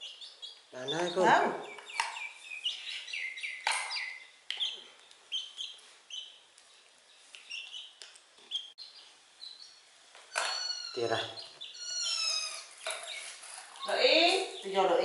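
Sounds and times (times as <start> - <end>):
baby chicken peeping: 0.0 - 15.0.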